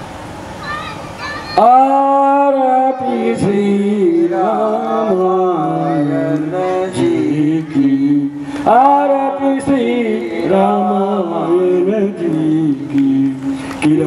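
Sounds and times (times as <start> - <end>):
man singing devotional melody: 1.6 - 14.0.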